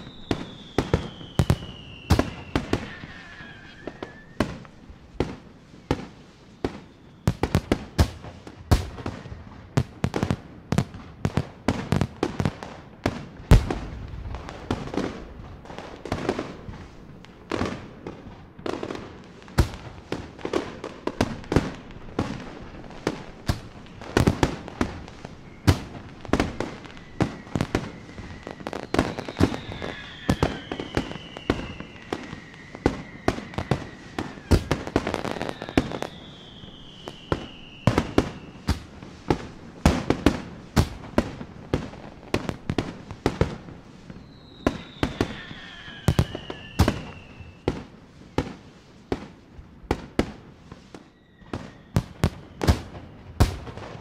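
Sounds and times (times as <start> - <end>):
firework whistles falling in pitch: 0.0 - 9.4, 11.9 - 49.3, 50.2 - 54.0.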